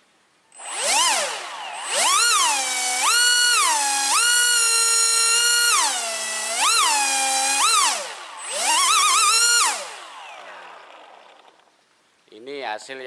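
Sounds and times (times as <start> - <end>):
electric motor high whine: 0.6 - 11.6.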